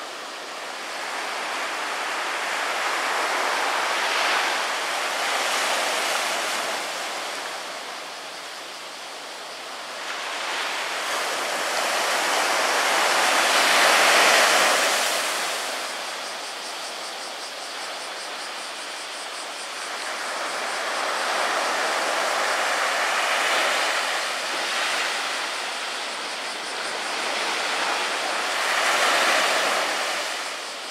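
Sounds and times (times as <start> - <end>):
sea surf breaking on beach: 0.0 - 30.9.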